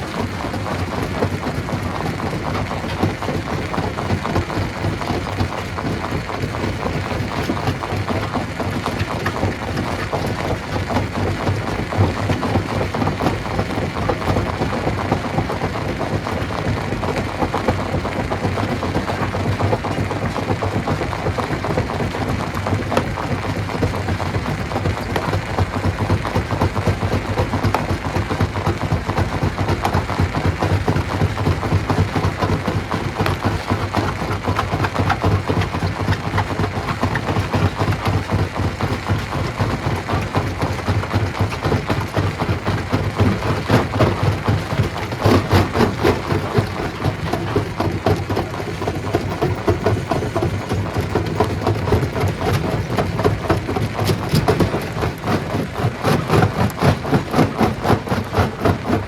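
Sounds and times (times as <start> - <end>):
rock rattling and cracking: 0.0 - 59.0.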